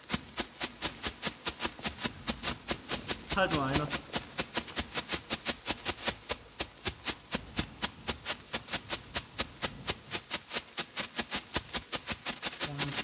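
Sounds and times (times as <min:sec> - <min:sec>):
strobe firework popping: 0:00.0 - 0:13.0.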